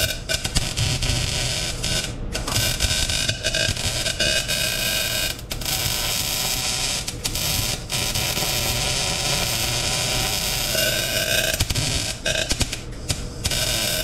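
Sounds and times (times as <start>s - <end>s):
welding arc crackling: 0.0s - 14.0s.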